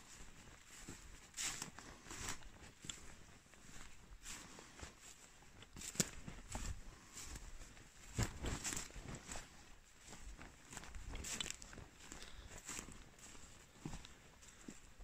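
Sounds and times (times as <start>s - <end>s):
footsteps crunching on forest ground: 0.0s - 15.0s.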